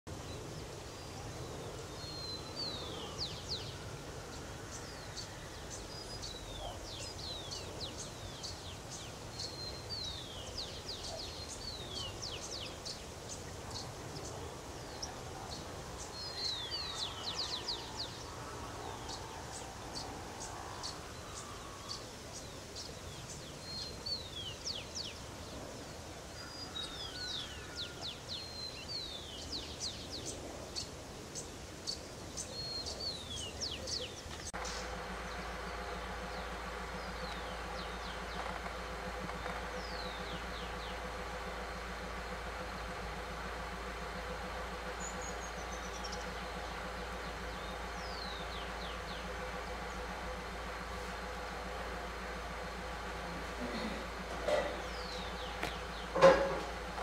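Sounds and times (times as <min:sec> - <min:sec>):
low background noise: 0:00.1 - 0:57.0.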